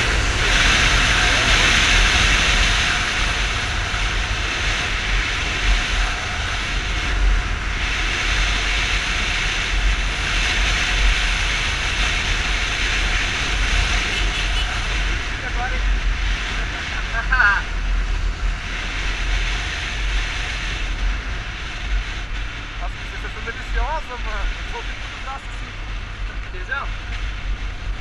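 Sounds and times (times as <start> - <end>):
motorcycle engine rumble: 0.0 - 28.0
wind rushing over microphone: 0.0 - 28.0.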